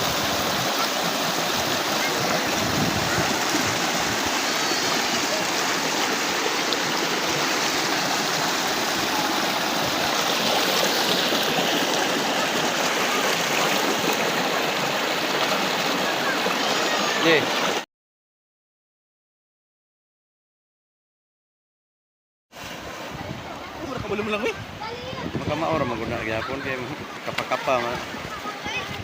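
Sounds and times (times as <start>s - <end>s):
river water rushing: 0.0s - 17.8s, 22.6s - 29.0s.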